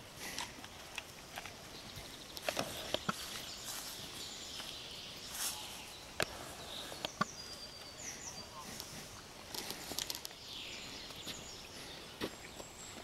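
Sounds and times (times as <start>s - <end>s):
footsteps on dirt path: 0.0s - 7.9s, 8.6s - 13.0s
birds chirping: 0.0s - 13.0s.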